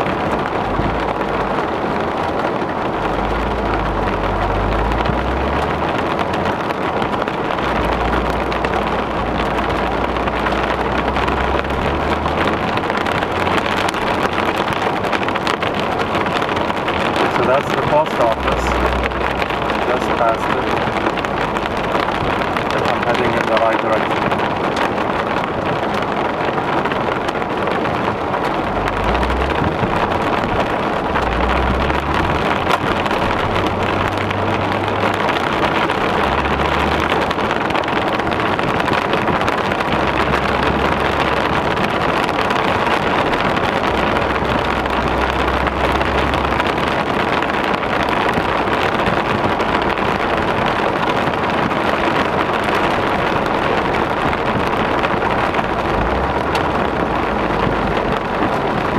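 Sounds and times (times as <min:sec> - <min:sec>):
heavy rain on car: 0:00.0 - 0:58.9
low rumbles: 0:00.0 - 0:58.9
tyres hissing on wet road: 0:00.0 - 0:58.9.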